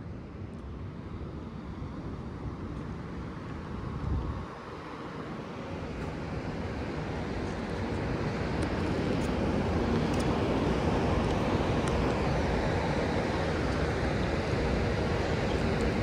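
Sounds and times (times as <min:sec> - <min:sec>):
aircraft engines roaring: 0:00.0 - 0:16.0.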